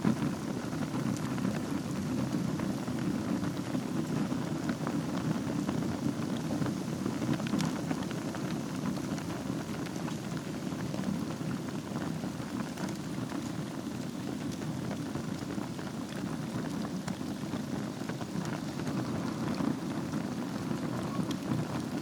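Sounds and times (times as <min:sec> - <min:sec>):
fire crackling and popping: 0:00.0 - 0:22.0
low rumble of fire: 0:00.0 - 0:22.0.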